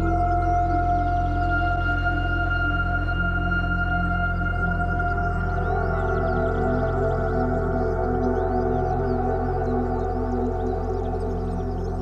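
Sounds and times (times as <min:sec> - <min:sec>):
ambient music held tones: 0:00.0 - 0:12.0
steady low drone: 0:00.0 - 0:12.0.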